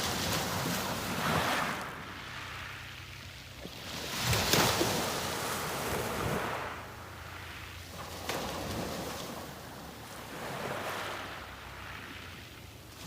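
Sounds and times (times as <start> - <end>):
waves breaking on beach: 0.0 - 13.0.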